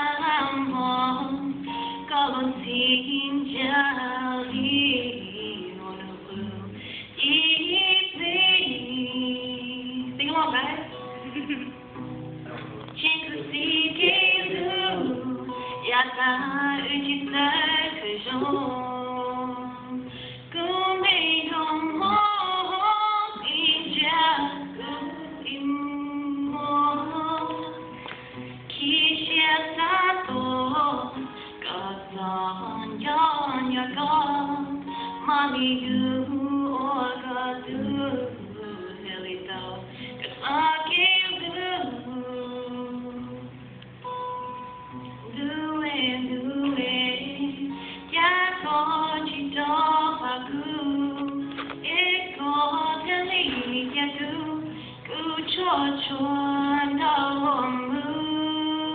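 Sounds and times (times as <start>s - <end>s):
woman singing: 0.0s - 12.0s, 12.9s - 43.7s, 44.4s - 58.9s
acoustic guitar chords: 0.0s - 58.9s.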